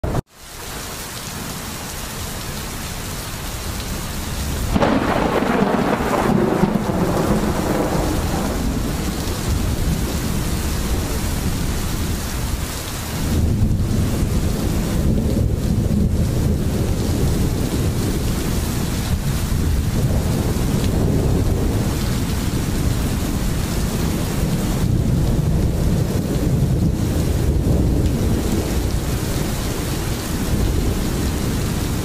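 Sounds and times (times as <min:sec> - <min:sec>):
steady rain: 0:00.0 - 0:32.0
thunder rumbling: 0:03.8 - 0:32.0.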